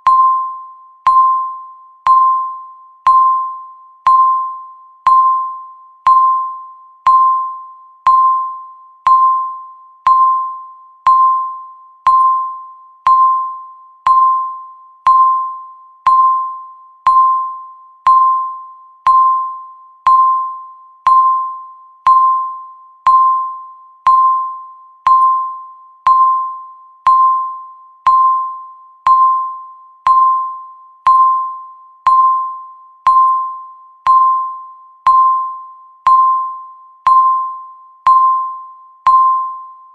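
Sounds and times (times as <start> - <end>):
timer beeps: 0.0 - 39.9.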